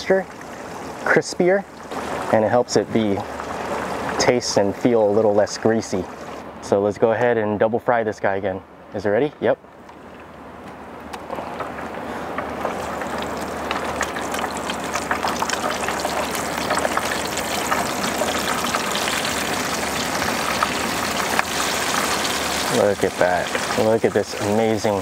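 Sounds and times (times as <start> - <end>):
oil sizzling and crackling: 0.0 - 6.4, 11.3 - 25.0.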